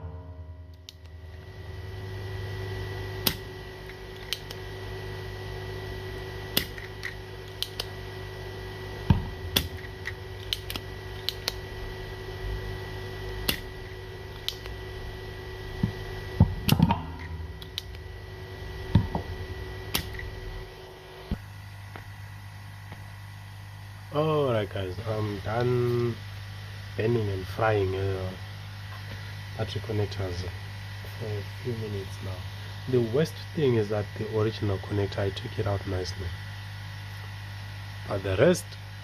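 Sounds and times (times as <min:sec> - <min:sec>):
faint high whine: 0:00.0 - 0:39.0
steady electrical hum: 0:00.0 - 0:39.0.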